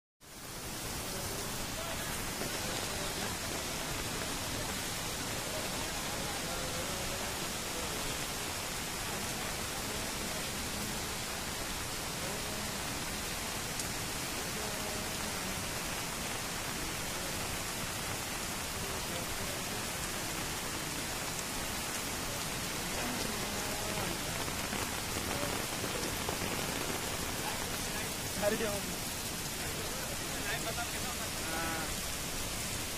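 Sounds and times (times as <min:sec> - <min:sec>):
rushing flood torrent: 0:00.3 - 0:32.9.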